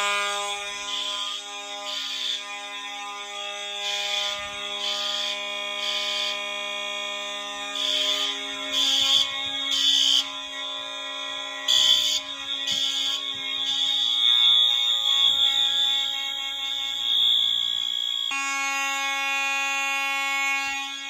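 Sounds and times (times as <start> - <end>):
buzzy evacuation horn blasts: 0.0 - 20.7
steady fire alarm horn tones: 0.0 - 21.0.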